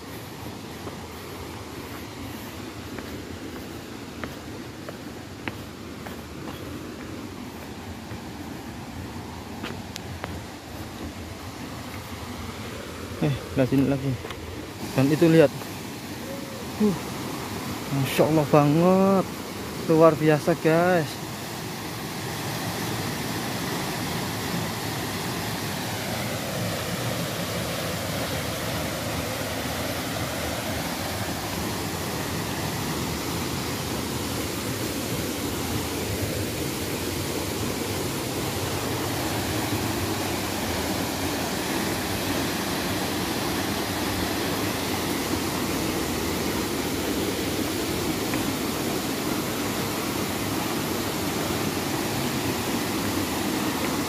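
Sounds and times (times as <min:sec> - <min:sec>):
stream running over rocks: 0:00.0 - 0:54.0
waterfall rushing: 0:00.0 - 0:54.0.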